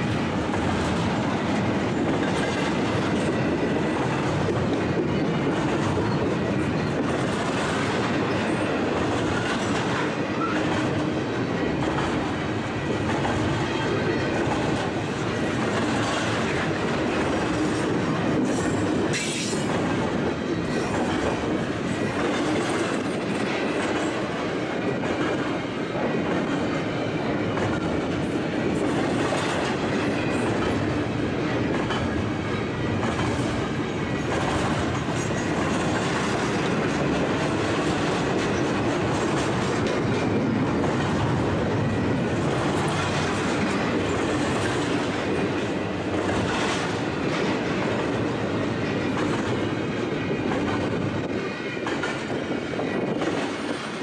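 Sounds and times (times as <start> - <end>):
freight train rolling past: 0.0 - 54.0
steel wheels on rails: 0.0 - 54.0.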